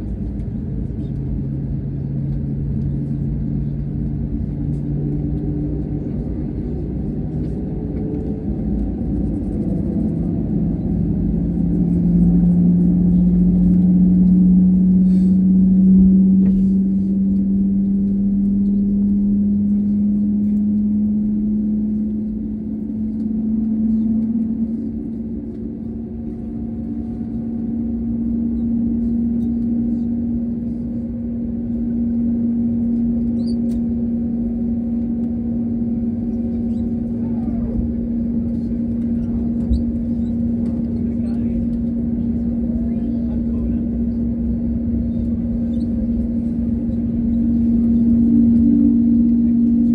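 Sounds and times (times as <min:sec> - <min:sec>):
jet engine hum in cabin: 0:00.0 - 0:49.9.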